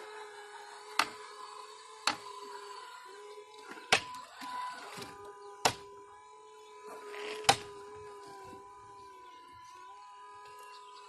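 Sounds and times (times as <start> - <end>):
hydraulic pump whine: 0.0 - 11.0.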